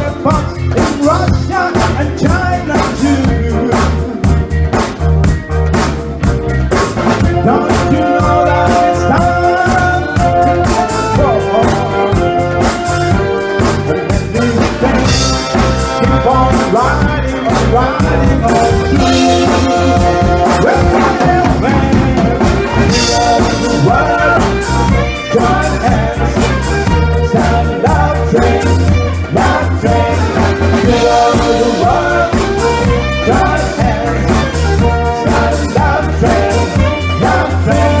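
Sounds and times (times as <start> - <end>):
live band playing soul-funk: 0.0 - 38.0.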